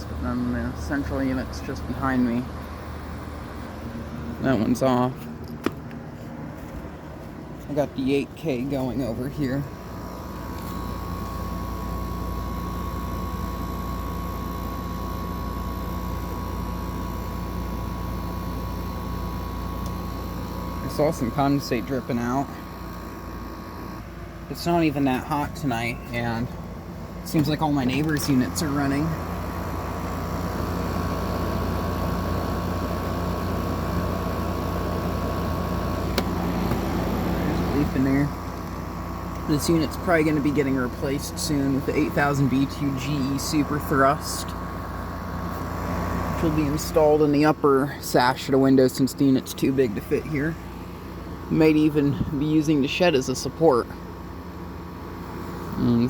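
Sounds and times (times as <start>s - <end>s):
air conditioner fan rushing: 0.0s - 56.0s
compressor hum: 0.0s - 56.0s
faint steady whine: 0.0s - 56.0s.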